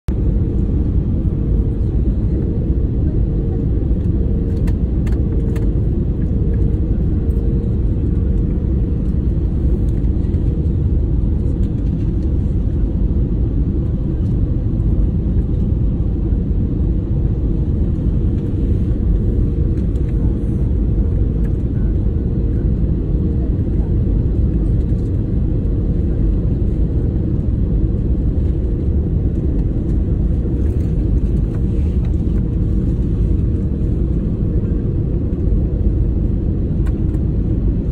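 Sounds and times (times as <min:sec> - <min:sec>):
airliner engines and airflow: 0:00.0 - 0:37.9.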